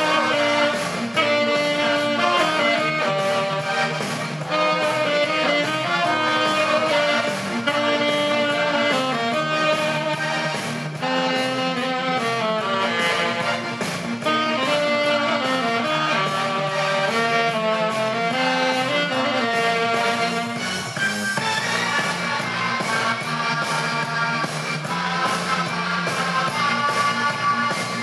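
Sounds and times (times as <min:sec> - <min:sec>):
alto saxophone melody: 0:00.0 - 0:28.0
recorded backing music: 0:00.0 - 0:28.0.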